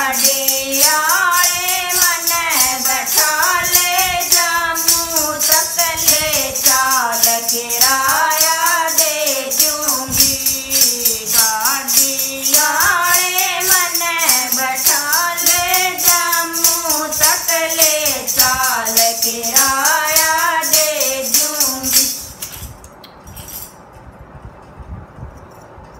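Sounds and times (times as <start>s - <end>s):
women singing devotional song: 0.0s - 22.5s
jingle rattles shaking: 0.0s - 24.0s.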